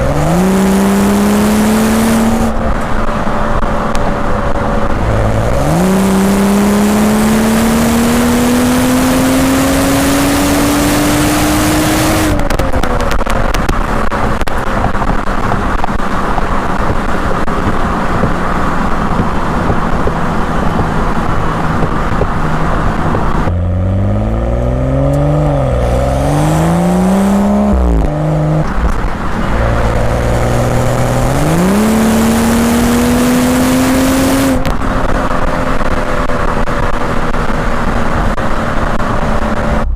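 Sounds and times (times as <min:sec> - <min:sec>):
car exhaust revving: 0:00.0 - 0:39.9
wind and road noise: 0:00.0 - 0:39.9.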